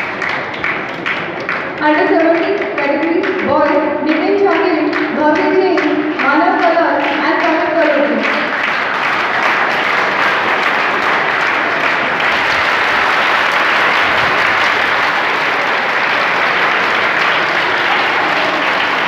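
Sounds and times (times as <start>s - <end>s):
audience applauding: 0.0s - 3.4s, 4.5s - 19.0s.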